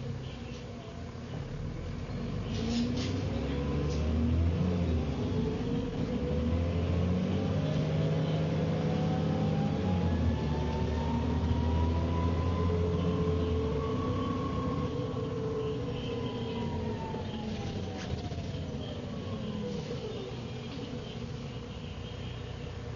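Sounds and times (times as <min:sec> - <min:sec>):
bus engine drone: 0:00.0 - 0:22.9
rising axle whine: 0:00.8 - 0:22.9.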